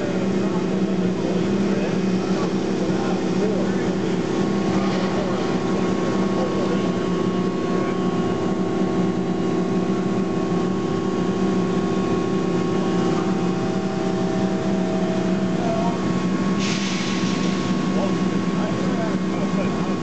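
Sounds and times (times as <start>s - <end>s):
industrial vacuum humming and hissing: 0.0s - 20.0s.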